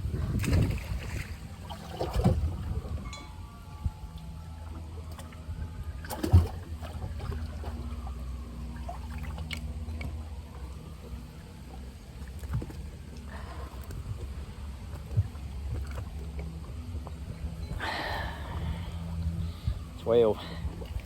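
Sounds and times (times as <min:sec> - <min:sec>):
steady low hum: 0:00.0 - 0:21.0
water sloshing: 0:00.0 - 0:21.0.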